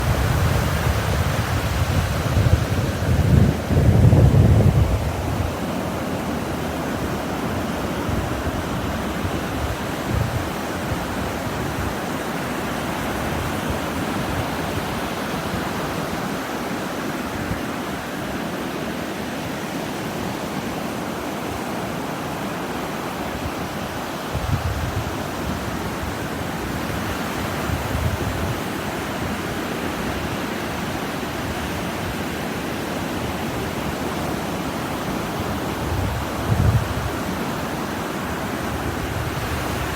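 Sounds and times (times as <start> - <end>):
wind rumble on microphone: 0.0 - 16.4, 23.3 - 39.9
waves breaking on beach: 0.0 - 39.9.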